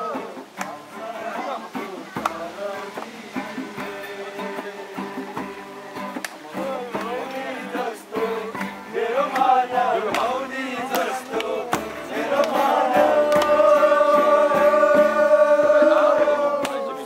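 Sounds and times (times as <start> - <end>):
acoustic guitar: 0.0 - 17.0
men singing together: 0.0 - 17.0.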